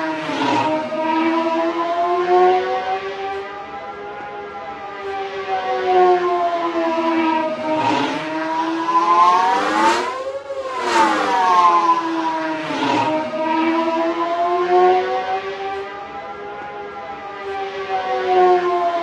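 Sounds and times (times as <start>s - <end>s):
siren-like engine whine: 0.0s - 19.0s.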